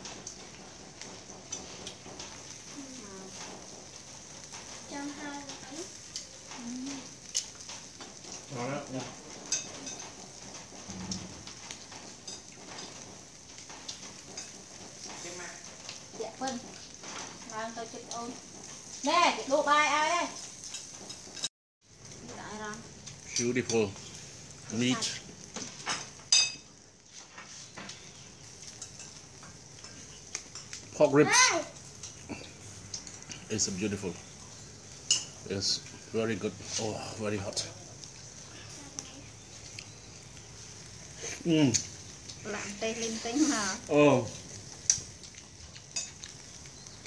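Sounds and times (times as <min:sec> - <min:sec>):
charcoal pops and crackles: 0:00.0 - 0:47.0
ribs sizzling on a grill: 0:00.0 - 0:47.0.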